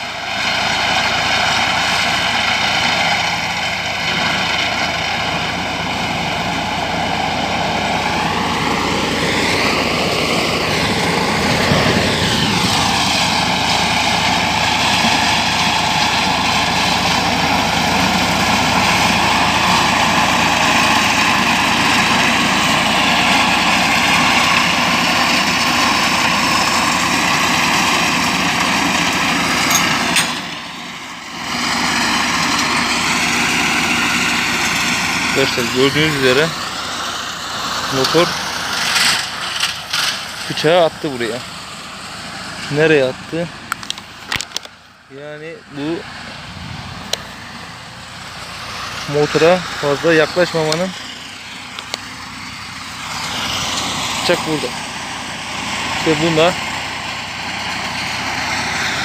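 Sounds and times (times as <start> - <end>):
hay mower engine running: 0.0 - 59.0.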